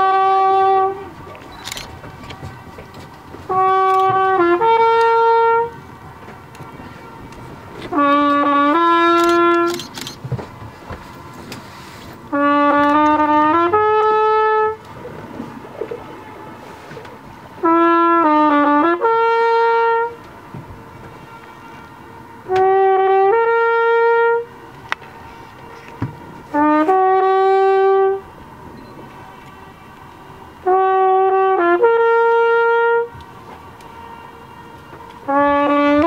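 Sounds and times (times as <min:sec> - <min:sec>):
flugelhorn playing sustained notes: 0:00.0 - 0:10.2, 0:11.1 - 0:36.0.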